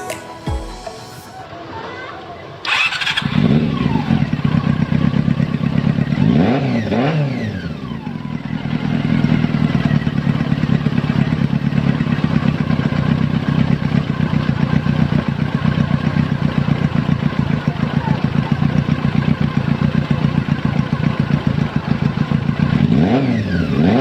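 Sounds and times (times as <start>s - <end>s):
motorcycle engine revving and idling: 2.6s - 24.0s.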